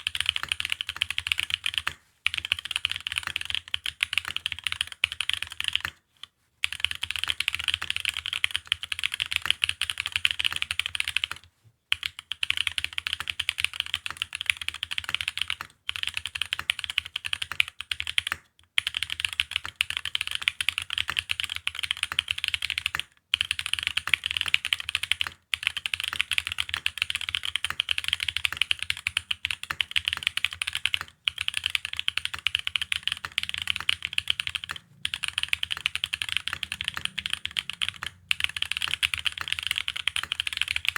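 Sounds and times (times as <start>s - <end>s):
fast mechanical keyboard typing: 0.0s - 6.0s, 6.6s - 40.9s.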